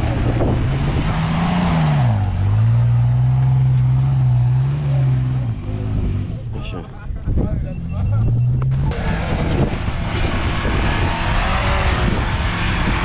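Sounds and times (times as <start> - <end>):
engine under heavy throttle: 0.0 - 13.0.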